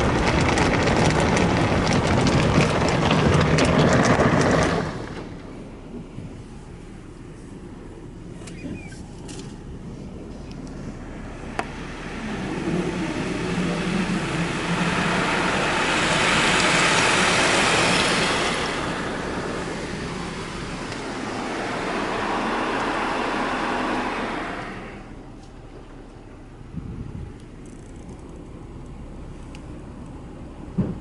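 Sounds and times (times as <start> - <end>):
car wash rushing noise: 0.0 - 26.8.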